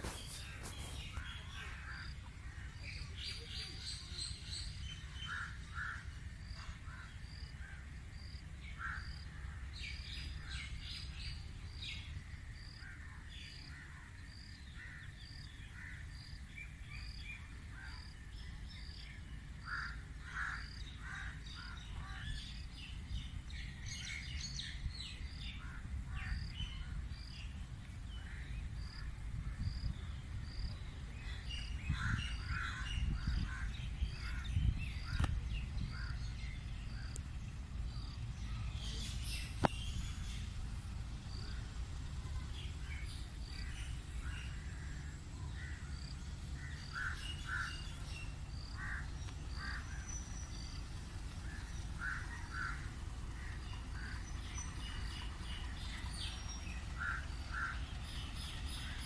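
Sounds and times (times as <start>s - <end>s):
birds chirping: 0.0s - 59.0s
steady low rumble: 0.0s - 59.0s.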